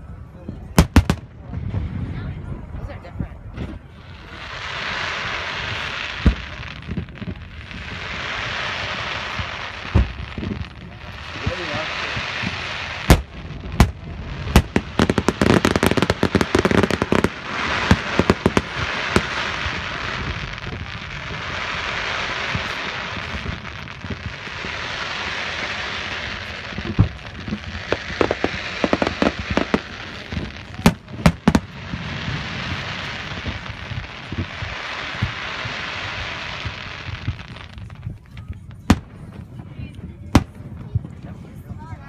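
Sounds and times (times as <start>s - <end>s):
firework pops and bangs: 0.4s - 1.9s, 3.5s - 41.6s
firework booms: 0.4s - 42.0s.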